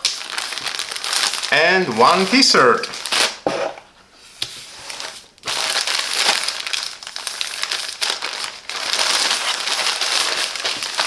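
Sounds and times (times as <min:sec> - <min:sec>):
packaging crinkling and rustling: 0:00.0 - 0:03.5, 0:04.7 - 0:11.0.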